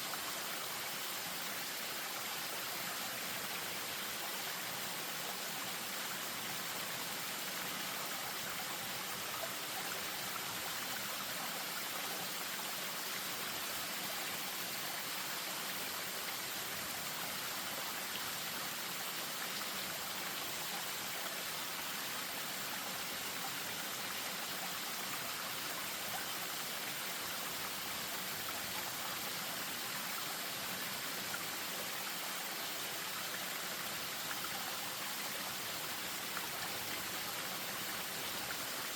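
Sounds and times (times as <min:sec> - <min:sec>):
stream over small waterfall: 0:00.0 - 0:38.9.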